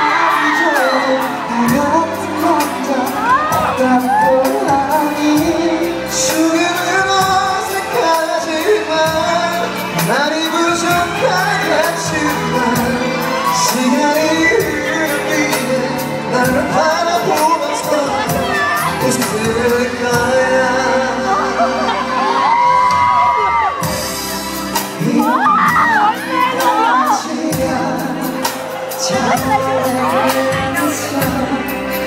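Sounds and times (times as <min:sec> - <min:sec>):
backing track with steady beat: 0:00.0 - 0:32.0
pop vocals into microphone: 0:00.0 - 0:32.0.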